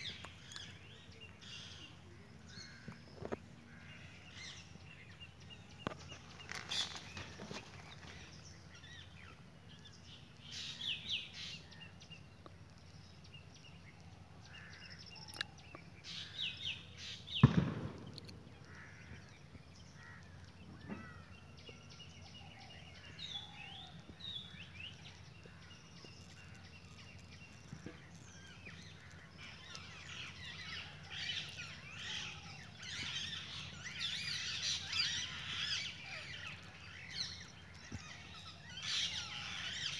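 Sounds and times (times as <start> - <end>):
low outdoor background: 0.0 - 39.9
small birds chirping: 0.0 - 39.9.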